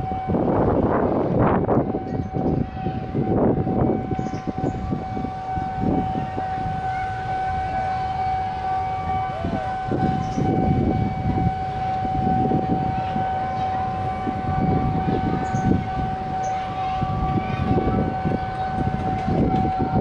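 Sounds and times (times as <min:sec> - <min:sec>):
level crossing alarm tone: 0:00.0 - 0:20.0
traffic rumbling: 0:00.0 - 0:20.0.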